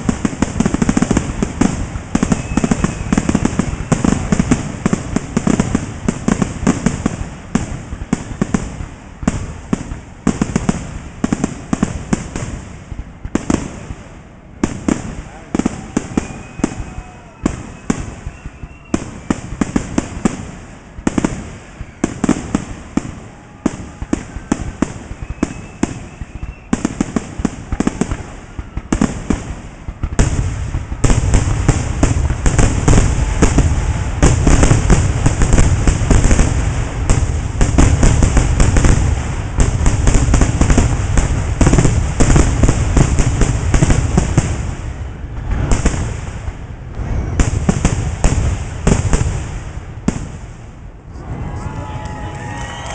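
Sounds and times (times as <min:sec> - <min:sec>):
deep firework booms: 0:00.0 - 0:51.6
fireworks crackling and banging: 0:00.0 - 0:52.9.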